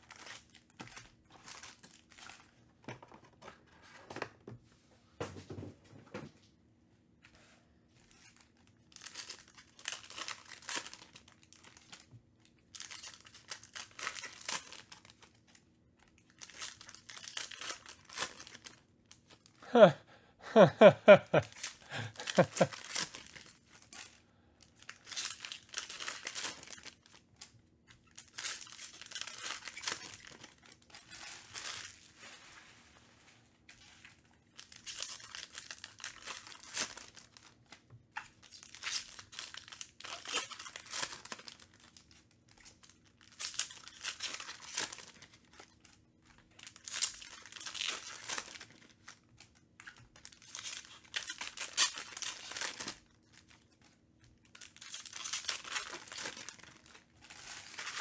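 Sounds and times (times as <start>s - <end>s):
foil wrappers ripping: 0.0s - 2.5s, 8.0s - 19.9s, 20.6s - 32.6s, 34.0s - 58.0s
foil crinkling: 0.0s - 3.5s, 8.0s - 19.9s, 20.6s - 33.0s, 33.7s - 58.0s.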